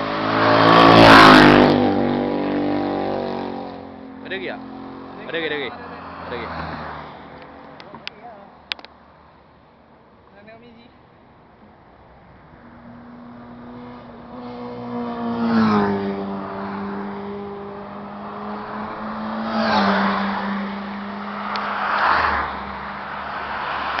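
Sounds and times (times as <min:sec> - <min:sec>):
vehicles passing at speed: 0:00.0 - 0:24.0.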